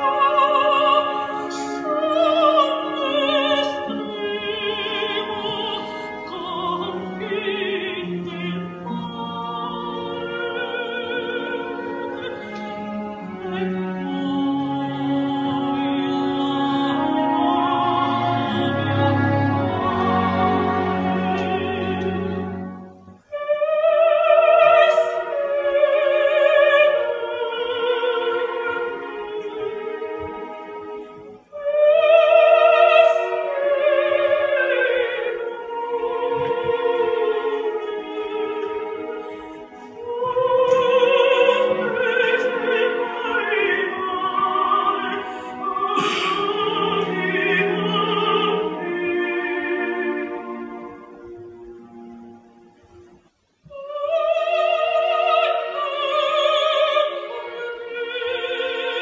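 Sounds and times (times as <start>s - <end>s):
soprano singing with vibrato: 0.0s - 51.6s, 53.6s - 59.0s
orchestral accompaniment: 0.0s - 59.0s.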